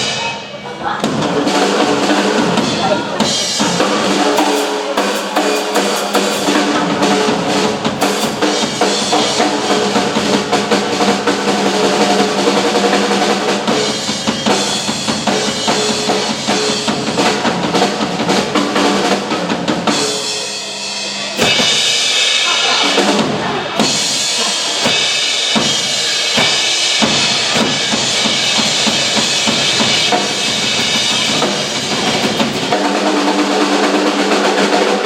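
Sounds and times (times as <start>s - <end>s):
drum kits playing: 0.0s - 35.0s.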